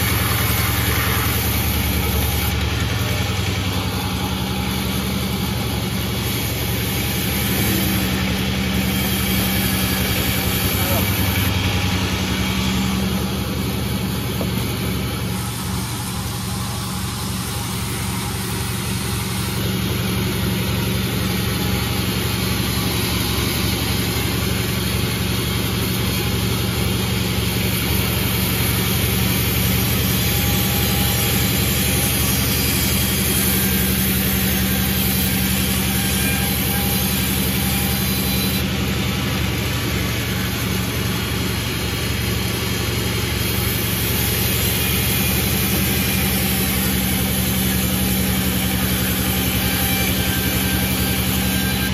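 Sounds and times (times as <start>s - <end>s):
sawmill engine humming and rattling: 0.0s - 51.9s.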